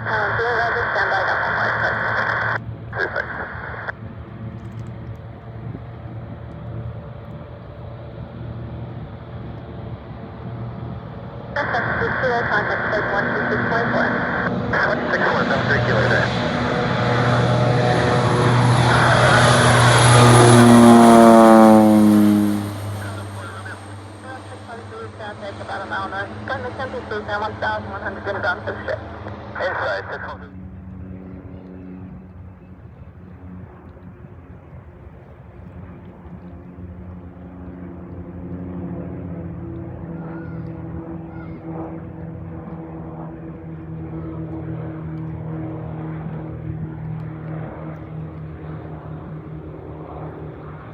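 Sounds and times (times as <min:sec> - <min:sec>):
floatplane passing by: 0:00.0 - 0:50.9
propeller plane engine hum: 0:00.0 - 0:50.9.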